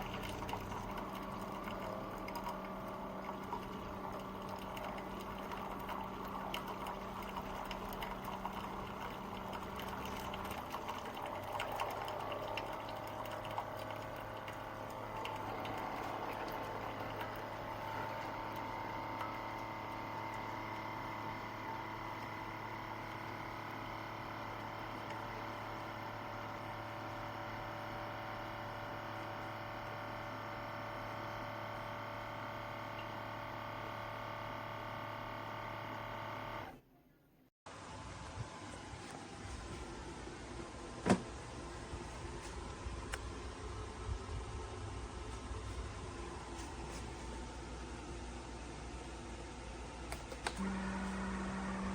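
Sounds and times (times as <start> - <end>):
coffee maker humming: 0.0 - 36.9, 37.7 - 51.9.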